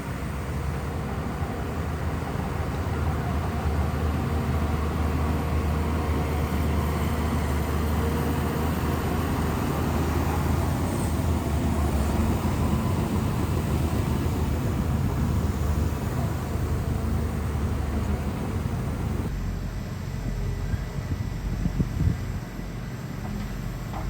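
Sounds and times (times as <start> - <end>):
bulldozer diesel engine droning: 0.0 - 24.0.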